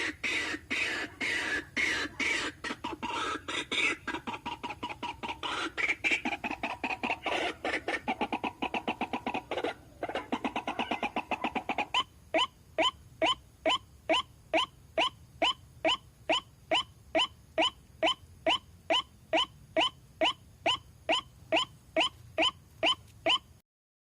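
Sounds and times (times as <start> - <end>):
waterhen calling: 0.0 - 23.6.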